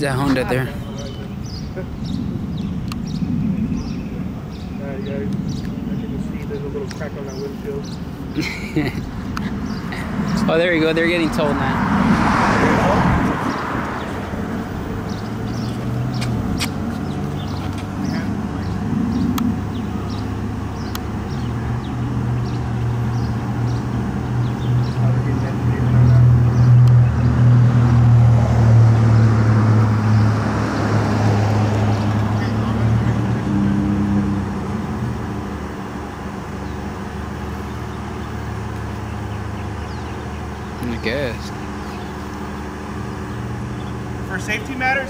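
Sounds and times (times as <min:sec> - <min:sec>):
small birds chirping: 0:00.0 - 0:28.2, 0:30.0 - 0:45.0
vehicle engine humming: 0:00.0 - 0:45.0.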